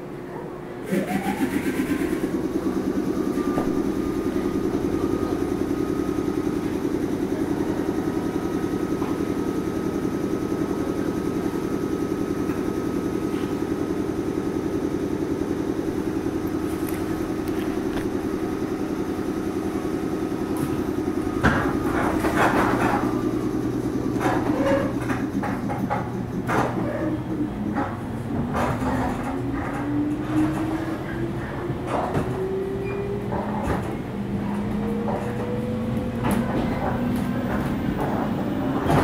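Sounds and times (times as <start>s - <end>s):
electric train hum and whine: 0.0s - 39.0s.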